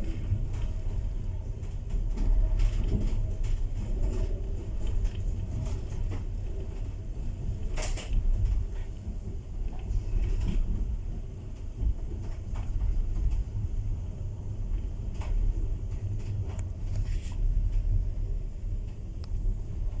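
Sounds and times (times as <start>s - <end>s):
train clicks and knocks: 0.0s - 20.0s
train rumbling: 0.0s - 20.0s.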